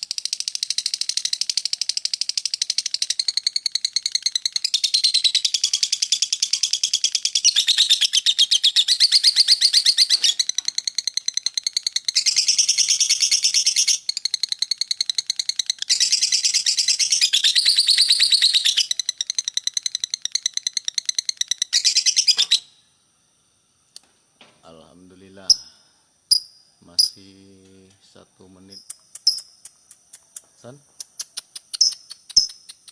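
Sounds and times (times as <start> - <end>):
lovebird chattering song: 0.0 - 22.7, 25.2 - 25.7, 26.3 - 27.4, 28.5 - 32.9.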